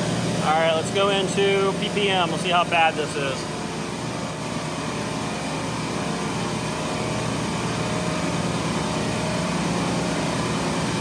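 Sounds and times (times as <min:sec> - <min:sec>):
refrigeration compressor humming: 0:00.0 - 0:11.0.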